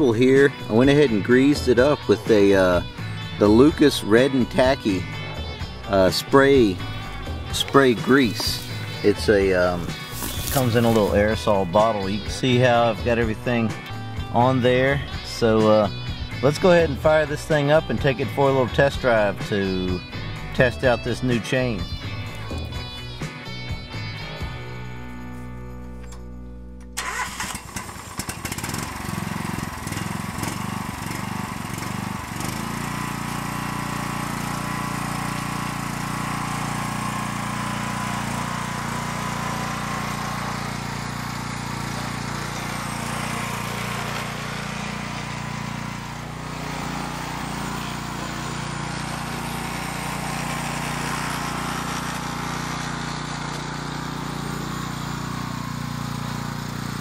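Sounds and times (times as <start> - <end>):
mower engine running: 0.0 - 24.6, 27.0 - 57.0.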